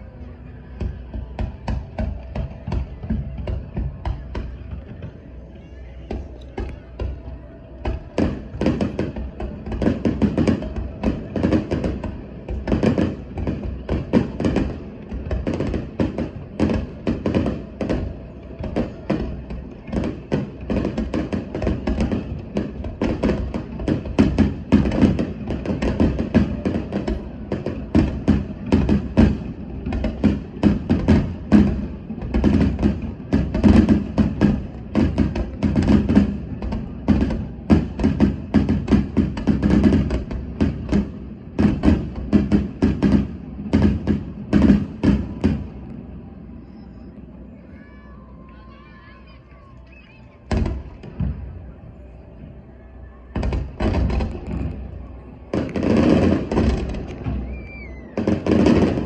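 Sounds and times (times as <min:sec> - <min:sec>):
fireworks bangs and thumps: 0:00.6 - 0:46.2, 0:50.5 - 0:51.7, 0:53.3 - 0:59.0.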